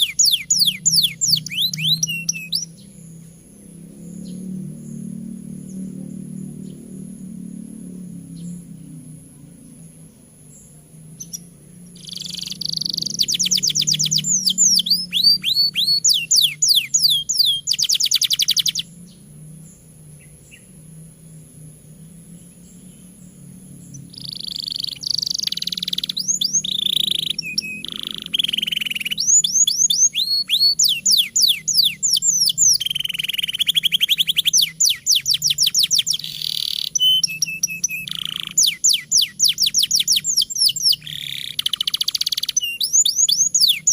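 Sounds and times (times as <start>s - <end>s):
canary singing trills: 0.0s - 43.9s
faint low hum: 0.0s - 43.9s.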